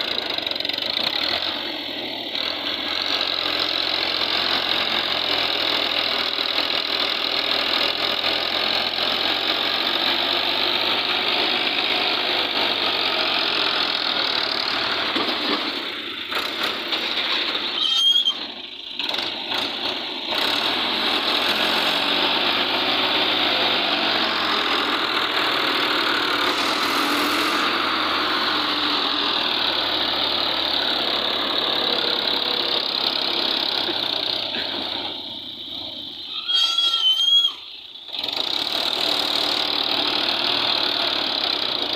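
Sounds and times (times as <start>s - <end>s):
tractor engines running under load: 0.0s - 41.9s.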